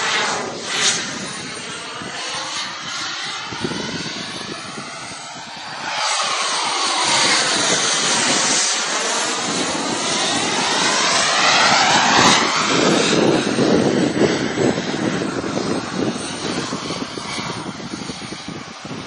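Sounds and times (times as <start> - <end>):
fighter jet flying past: 0.0 - 19.0.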